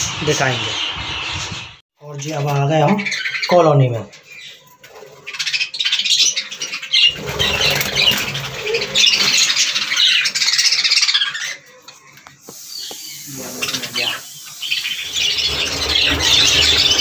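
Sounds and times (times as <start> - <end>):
budgerigars chattering and squawking: 0.0 - 1.8, 2.6 - 17.0.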